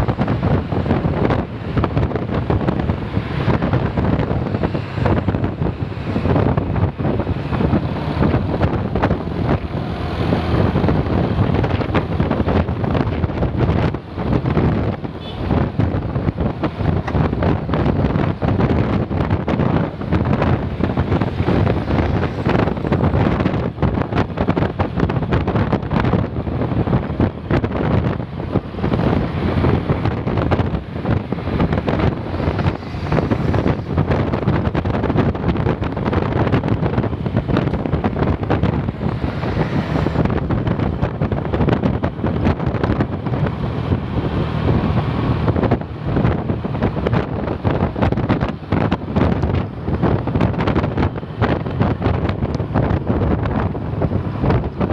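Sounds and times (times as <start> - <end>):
vehicle rumble: 0.0 - 54.9
wind buffeting microphone: 0.0 - 54.9.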